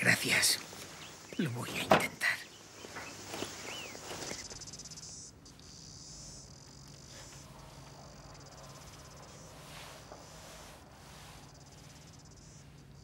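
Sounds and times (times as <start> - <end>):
crickets trilling: 0.0 - 13.0
low steady hum: 0.0 - 13.0.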